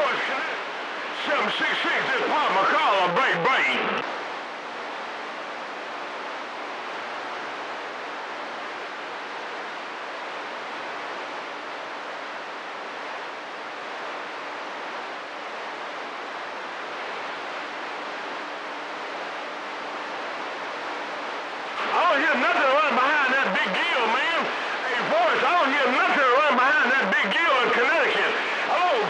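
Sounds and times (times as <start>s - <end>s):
faint steady hum: 0.0s - 29.0s
radio static hiss: 0.0s - 29.0s.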